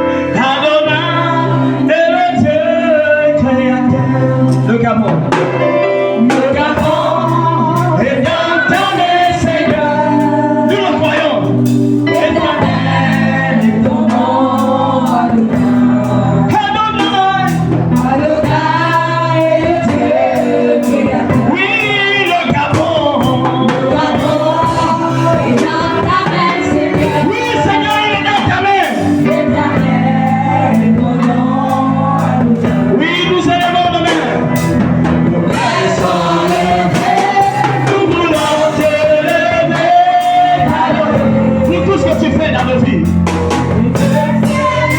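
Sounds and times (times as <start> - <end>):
voices singing gospel song: 0.0 - 44.9.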